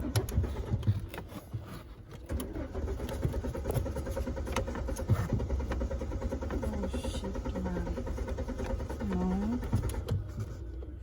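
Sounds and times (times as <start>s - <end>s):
car engine cranking: 0.0s - 11.0s.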